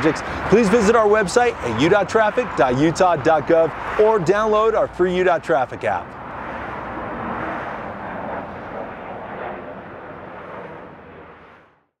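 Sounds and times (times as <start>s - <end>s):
freeway traffic rushing: 0.0s - 11.9s.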